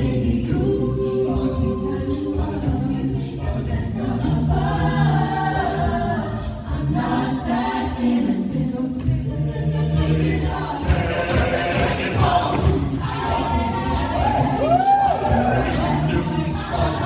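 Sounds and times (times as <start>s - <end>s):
a cappella group singing in harmony: 0.0s - 17.0s.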